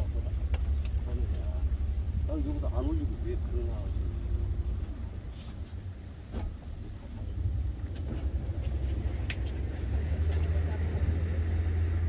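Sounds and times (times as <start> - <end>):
boat engine rumbling: 0.0 - 12.0
water wash under boat: 0.0 - 12.0.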